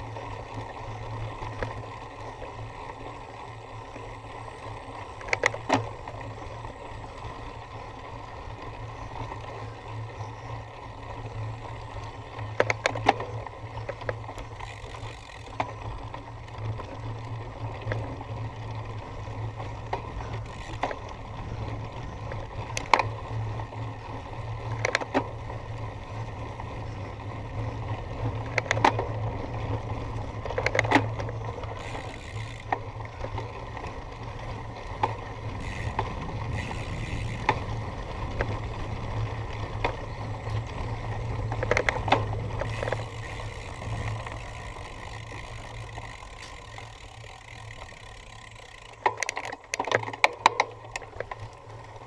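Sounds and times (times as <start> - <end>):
bike rattling and clanking: 0.0 - 52.0
bike tyres rumbling on rough ground: 0.0 - 52.0.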